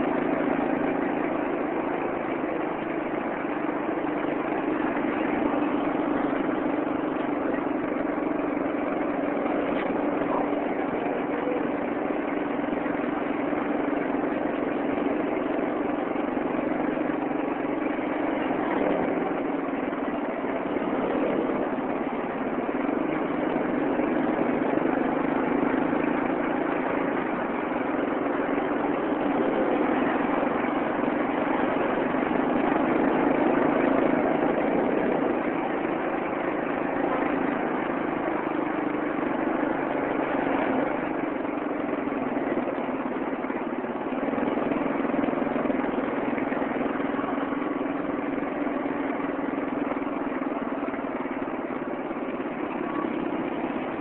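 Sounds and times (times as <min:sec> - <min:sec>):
road noise: 0:00.0 - 0:54.0
vehicle engine humming: 0:00.0 - 0:54.0.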